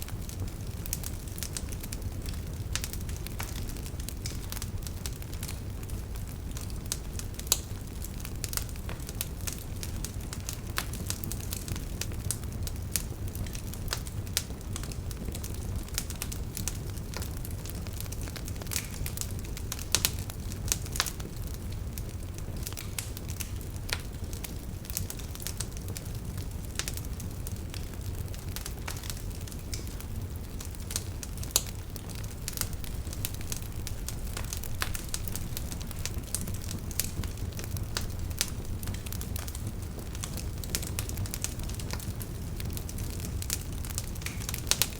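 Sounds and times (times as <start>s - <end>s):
fire crackling and popping: 0.0s - 44.9s
fire rumbling: 0.0s - 44.9s.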